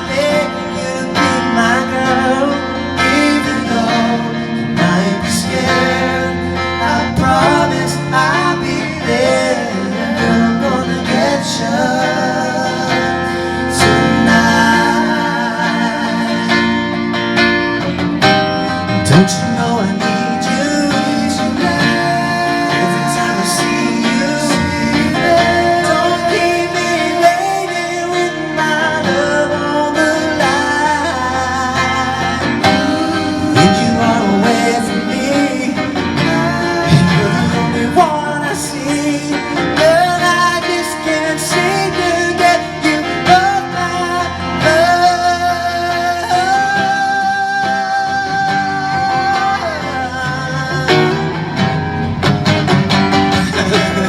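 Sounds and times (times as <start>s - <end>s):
person singing: 0.0s - 52.2s, 53.1s - 54.0s
guitar playing: 0.0s - 54.0s.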